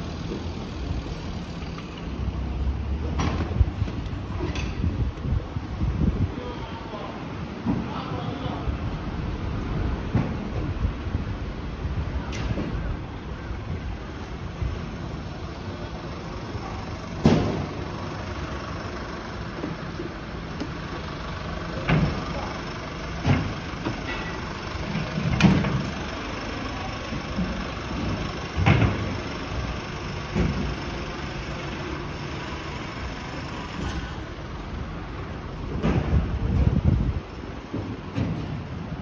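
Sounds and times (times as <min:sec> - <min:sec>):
road traffic hum: 0:00.0 - 0:39.0.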